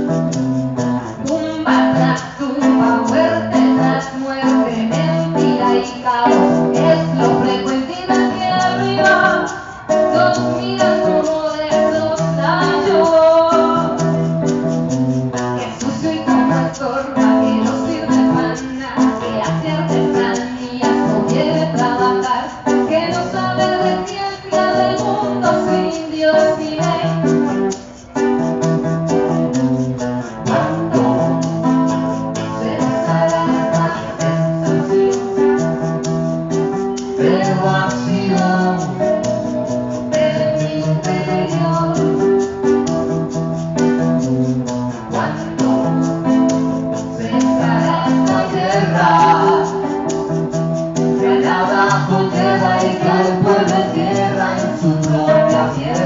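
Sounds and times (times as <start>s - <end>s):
acoustic guitar: 0.0s - 56.0s
woman singing: 1.1s - 14.7s, 15.3s - 28.0s, 30.5s - 43.4s, 45.0s - 56.0s.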